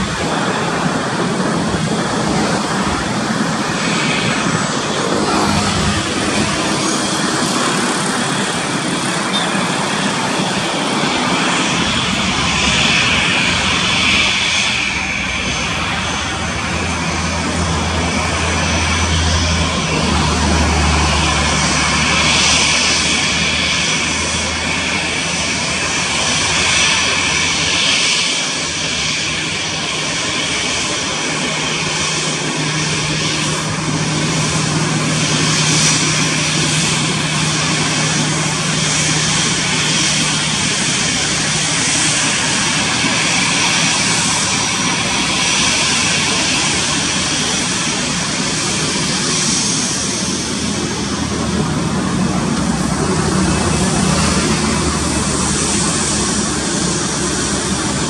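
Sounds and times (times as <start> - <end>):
jet engines at taxi power: 0.0 - 58.0.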